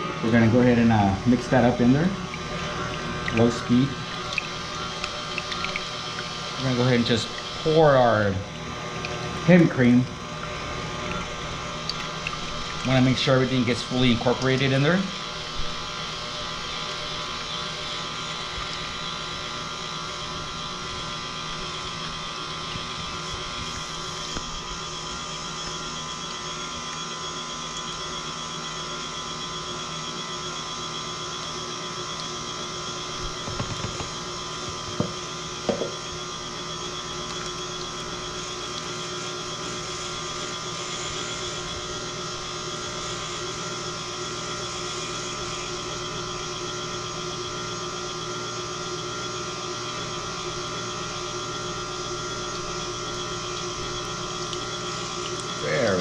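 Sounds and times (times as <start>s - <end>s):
stand mixer whisking: 0.0s - 56.0s.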